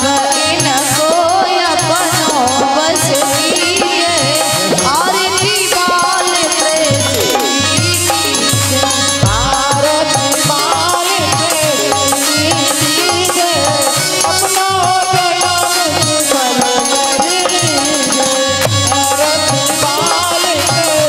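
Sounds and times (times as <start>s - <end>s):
jingling hand percussion: 0.0s - 21.0s
hand drum beat: 1.8s - 21.0s
wavering instrumental melody: 3.1s - 21.0s.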